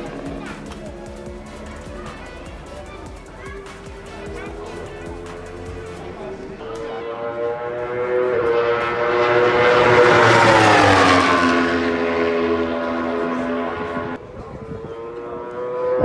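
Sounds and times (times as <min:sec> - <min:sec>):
racing motorcycle passing by: 0:00.0 - 0:16.0.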